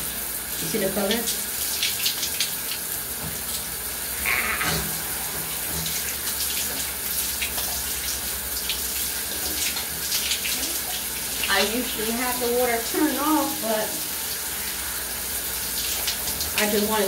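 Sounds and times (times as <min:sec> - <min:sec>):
shower spray hissing: 0:00.0 - 0:17.0.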